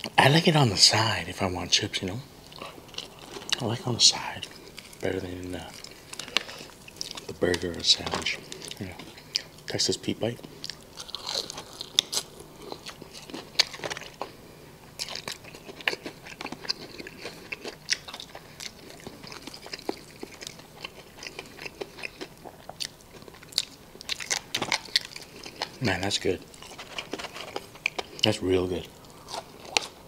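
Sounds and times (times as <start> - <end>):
chewing crispy fried chicken: 1.7 - 30.0.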